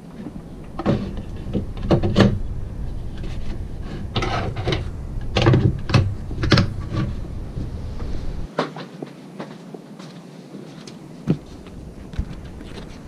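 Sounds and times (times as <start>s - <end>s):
low steady hum: 0.0s - 8.5s, 11.0s - 13.0s.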